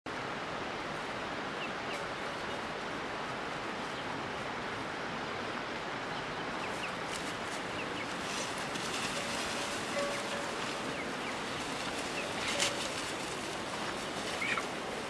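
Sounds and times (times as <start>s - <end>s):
outdoor ambience hiss: 0.1s - 15.0s.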